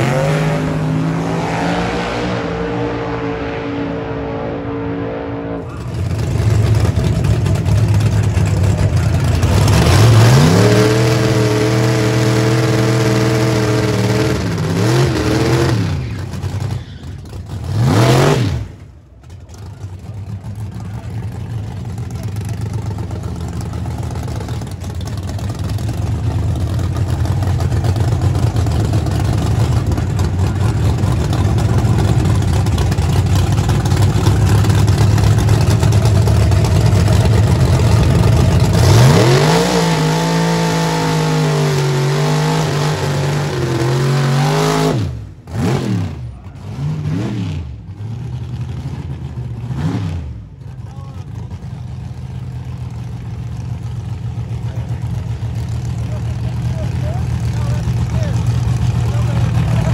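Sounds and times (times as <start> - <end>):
drag car engines revving: 0.0 - 59.9
truck engine deep rumble: 0.0 - 59.9.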